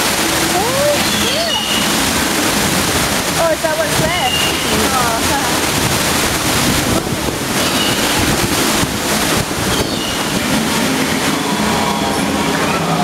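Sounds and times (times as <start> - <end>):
water rushing around boat: 0.0 - 13.0.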